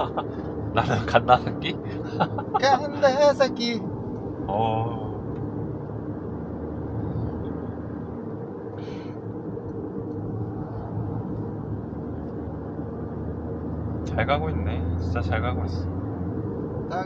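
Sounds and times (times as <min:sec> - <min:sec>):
low cabin hum: 0:00.0 - 0:17.0
road and tyre noise: 0:00.0 - 0:17.0.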